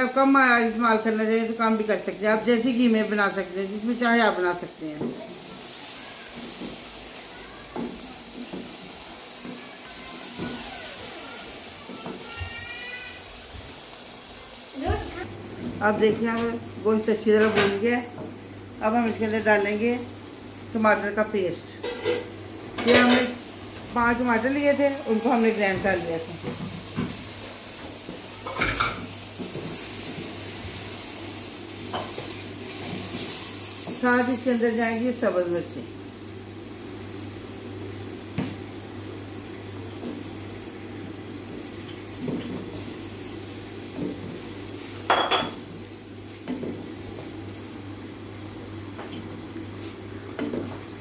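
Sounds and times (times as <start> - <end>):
meat sizzling in oil: 0.0 - 16.0, 16.8 - 51.0.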